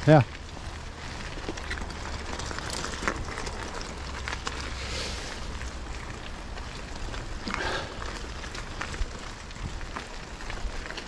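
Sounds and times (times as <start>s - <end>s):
bike tyres crackling on trail: 0.0s - 11.0s.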